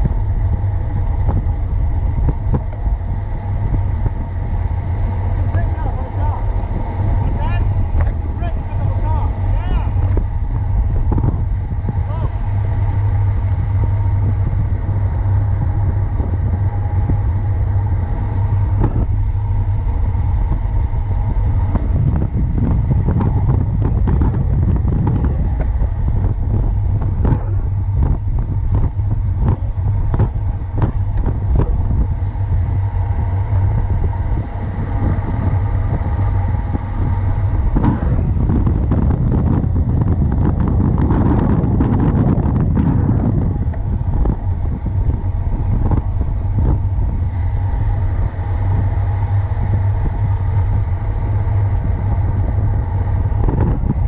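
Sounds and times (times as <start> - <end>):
tyres rumbling on asphalt: 0.0 - 54.0
wind buffeting microphone: 0.0 - 54.0.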